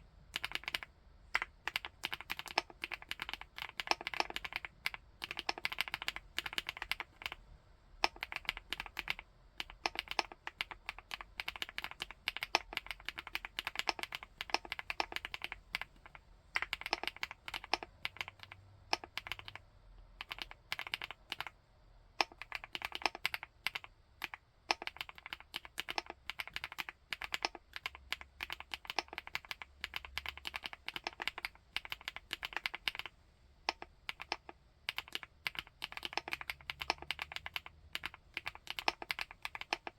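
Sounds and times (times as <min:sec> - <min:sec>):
keyboard keystroke clacks: 0:00.4 - 0:07.4, 0:08.0 - 0:19.6, 0:22.2 - 0:33.1, 0:33.7 - 0:39.9.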